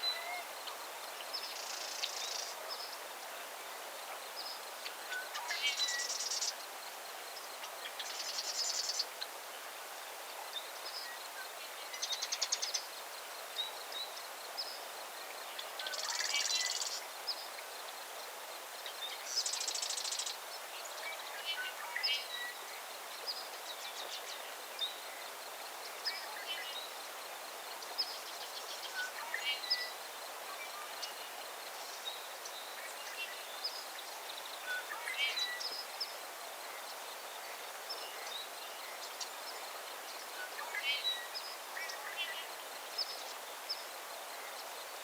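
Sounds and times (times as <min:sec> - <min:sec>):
steady outdoor hiss: 0:00.0 - 0:45.0.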